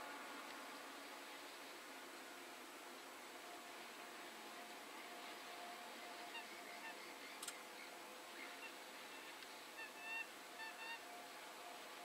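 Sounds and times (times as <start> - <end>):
faint outdoor air hiss: 0.0 - 12.0.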